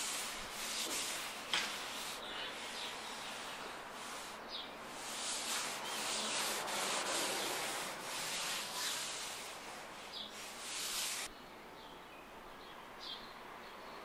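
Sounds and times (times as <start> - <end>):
sandpaper rubbing on metal: 0.0 - 11.3.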